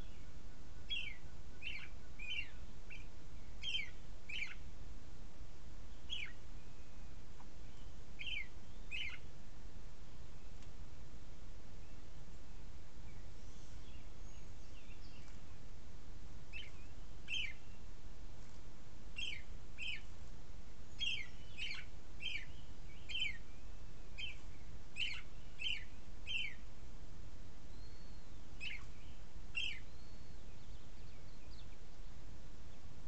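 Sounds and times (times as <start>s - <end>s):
bird chirping: 0.0s - 4.7s, 5.8s - 9.4s, 11.7s - 15.6s, 16.5s - 18.0s, 19.1s - 26.7s, 27.6s - 33.0s
steady low hiss: 0.0s - 33.0s.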